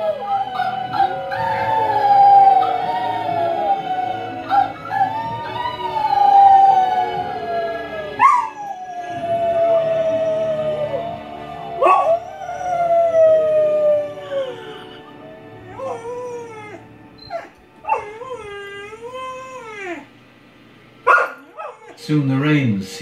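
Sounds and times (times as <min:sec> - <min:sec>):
puppy howling: 0:00.0 - 0:20.1, 0:21.1 - 0:22.0
film music: 0:00.0 - 0:23.0.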